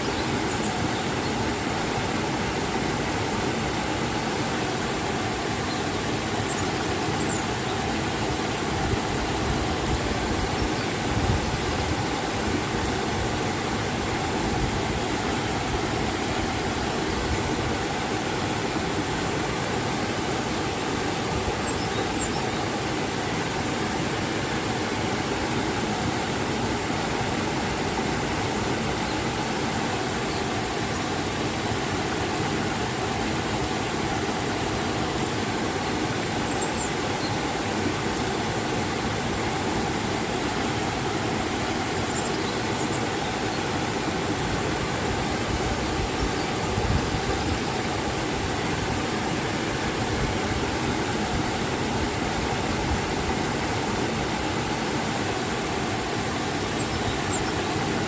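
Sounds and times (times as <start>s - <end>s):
river and waterfall rushing: 0.0s - 58.0s.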